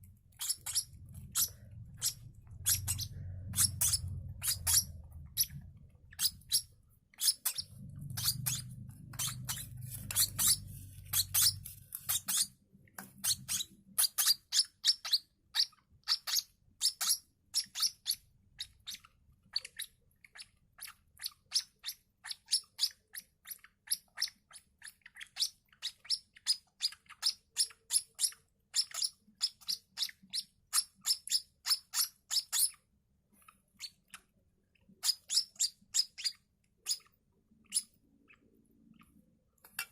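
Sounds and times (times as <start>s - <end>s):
bird chicks peeping: 0.0s - 32.8s, 33.7s - 39.9s.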